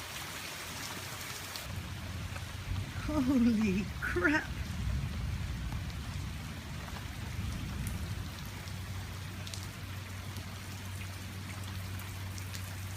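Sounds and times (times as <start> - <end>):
heavy rain falling: 0.0 - 12.9
sharp raindrops striking close: 0.0 - 12.9.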